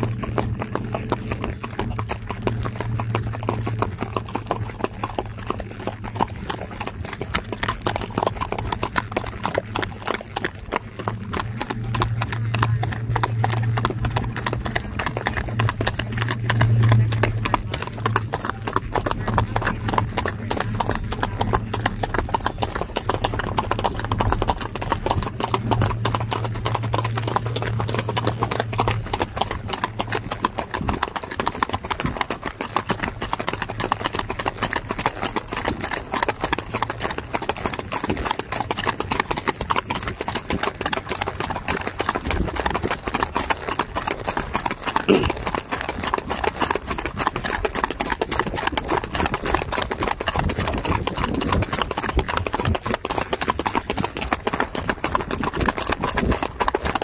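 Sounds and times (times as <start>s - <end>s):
truck engine humming: 0.0s - 47.9s
horse hooves on gravel: 0.0s - 57.0s.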